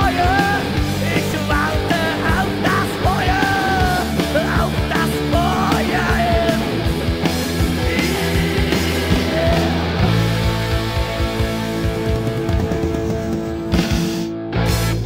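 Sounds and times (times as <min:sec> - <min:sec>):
bass: 0:00.0 - 0:15.0
drums: 0:00.0 - 0:15.0.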